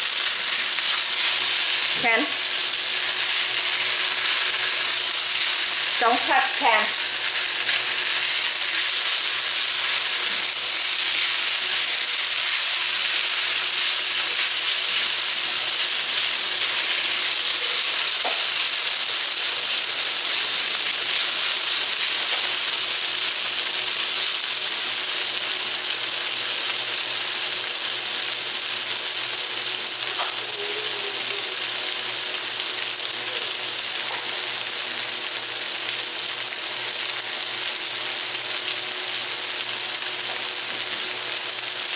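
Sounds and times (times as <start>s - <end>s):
beef sizzling in a wok: 0.0s - 41.9s.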